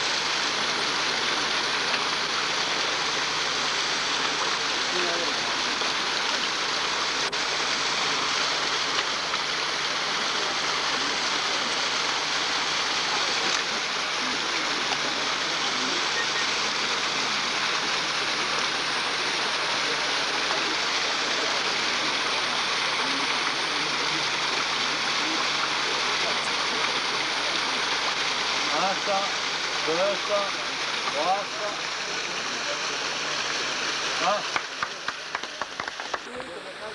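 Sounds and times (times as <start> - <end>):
small waterfall pouring over rocks: 0.0 - 36.9.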